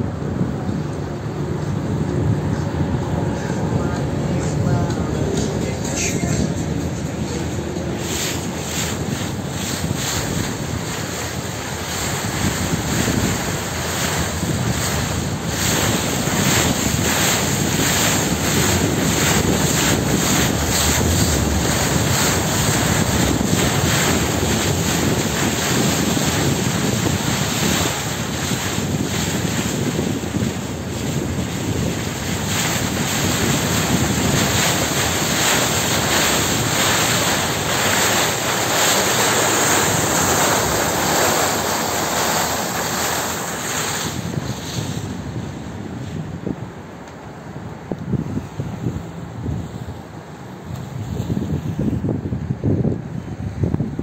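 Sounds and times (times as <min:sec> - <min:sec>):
boat engine rumble: 0:00.0 - 0:54.0
water along boat hull: 0:00.0 - 0:54.0
wind rushing over microphone: 0:00.0 - 0:54.0.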